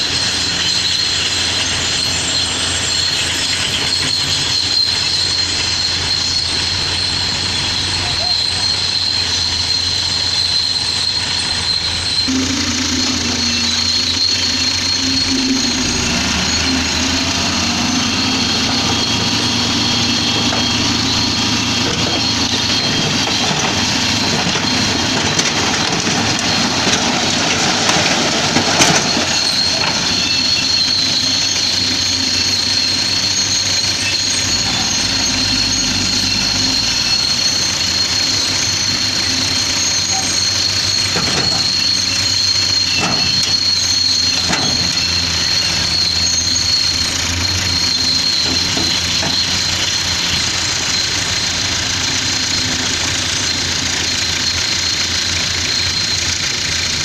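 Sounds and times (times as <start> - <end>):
heavy diesel engines running: 0.0 - 57.0
high-pitched squeal: 0.0 - 57.0.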